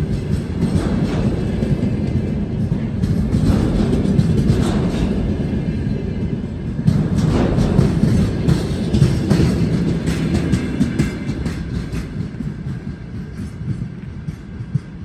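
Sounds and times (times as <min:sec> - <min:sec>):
freight train rumbling past: 0:00.0 - 0:15.0
wheels clacking over rail joints: 0:00.0 - 0:15.0.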